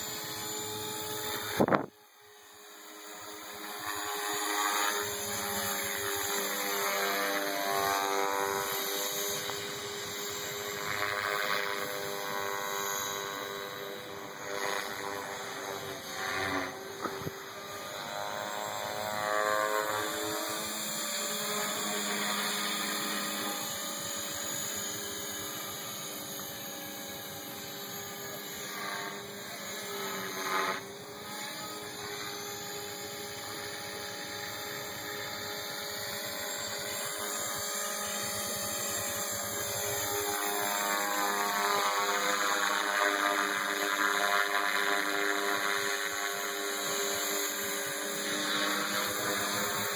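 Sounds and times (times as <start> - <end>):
rc helicopter whine: 0.0 - 49.9.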